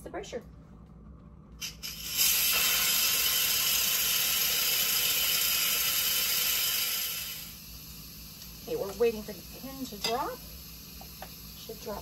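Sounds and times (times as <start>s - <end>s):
steam hissing from valve: 1.6s - 12.0s.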